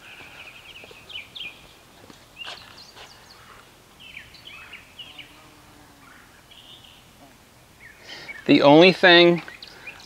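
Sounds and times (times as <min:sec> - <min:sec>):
faint outdoor ambience: 0:00.0 - 0:10.0
small birds chirping: 0:00.0 - 0:10.0.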